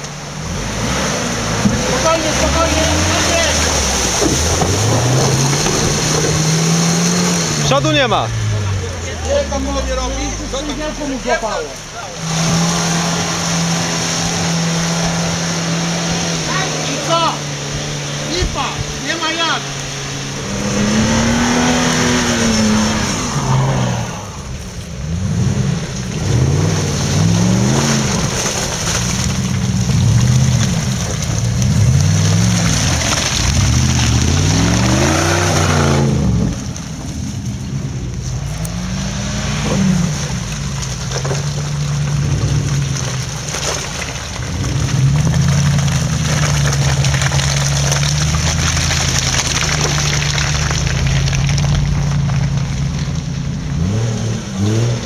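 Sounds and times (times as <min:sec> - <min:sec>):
off-road engines revving: 0:00.0 - 0:55.0.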